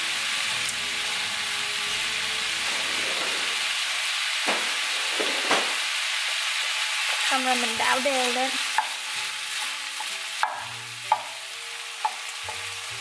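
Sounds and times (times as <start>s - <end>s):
sausage sizzling in a frying pan: 0.0s - 13.0s.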